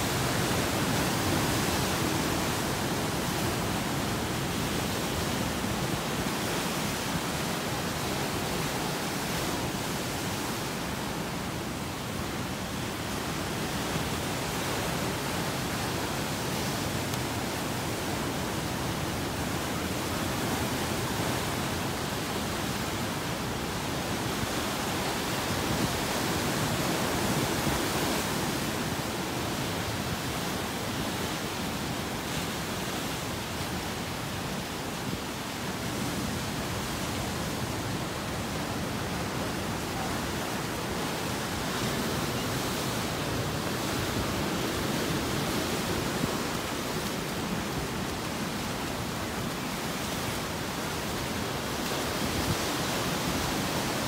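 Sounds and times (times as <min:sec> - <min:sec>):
ocean waves breaking over rocks: 0:00.0 - 0:54.0.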